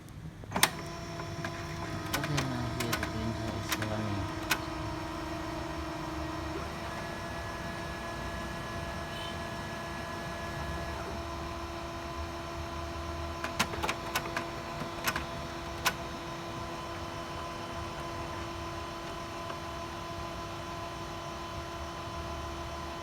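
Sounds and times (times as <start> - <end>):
printer motor hum: 0.4 - 23.0.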